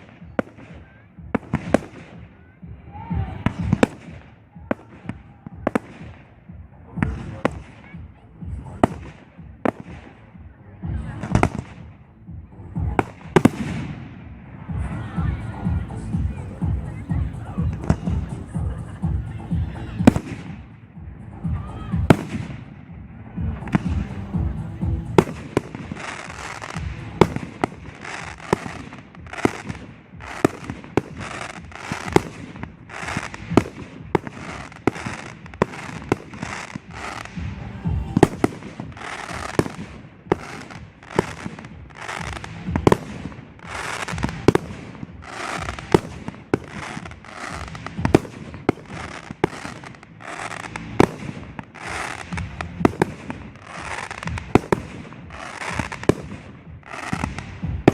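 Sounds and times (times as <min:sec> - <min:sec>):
fireworks crackling: 0:00.0 - 0:57.9.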